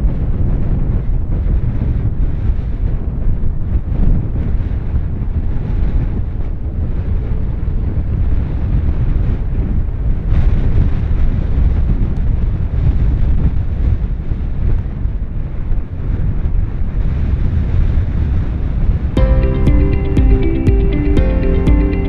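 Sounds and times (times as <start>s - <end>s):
wind buffeting microphone: 0.0s - 19.2s.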